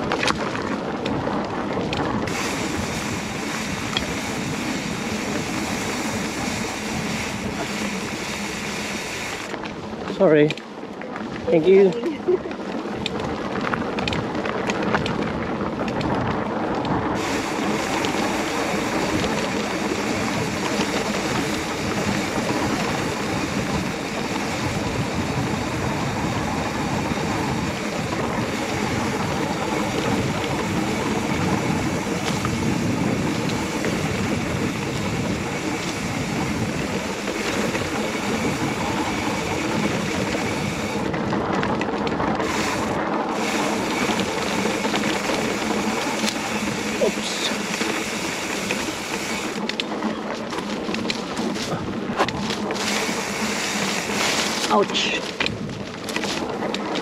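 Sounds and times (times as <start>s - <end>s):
bike clicks and rattles: 0.0s - 57.0s
bike tyres rumbling on gravel: 0.0s - 57.0s.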